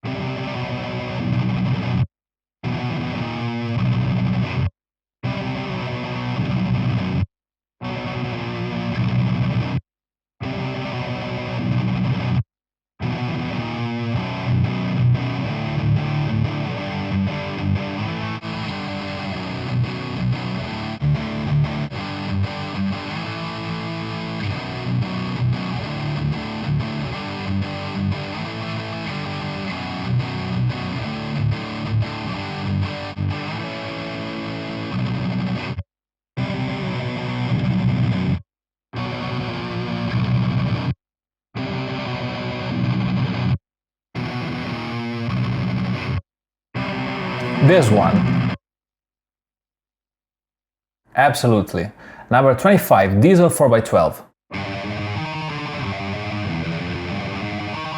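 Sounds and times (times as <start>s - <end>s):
distorted electric guitar riff: 0.0s - 2.0s, 2.6s - 7.2s, 7.8s - 9.8s, 10.4s - 12.4s, 13.0s - 35.8s, 36.4s - 38.4s, 39.0s - 40.9s, 41.6s - 43.6s, 44.2s - 46.2s, 46.8s - 48.6s, 52.9s - 57.9s.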